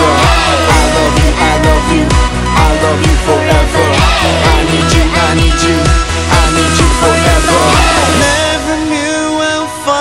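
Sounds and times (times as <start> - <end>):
pop love song: 0.0 - 10.0.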